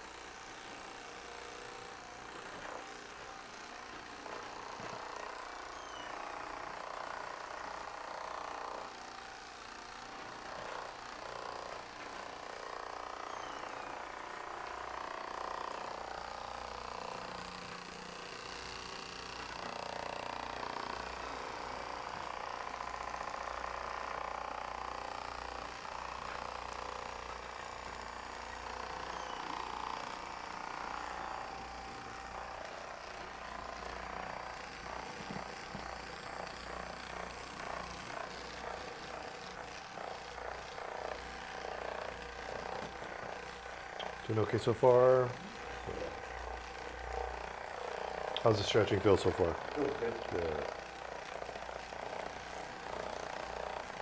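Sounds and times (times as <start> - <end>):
electric motor humming: 0.0 - 54.0.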